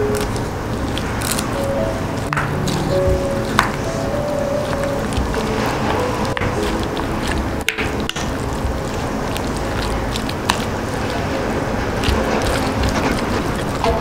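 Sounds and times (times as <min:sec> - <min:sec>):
wooden spoon stirring sticky rice: 0:00.0 - 0:14.0.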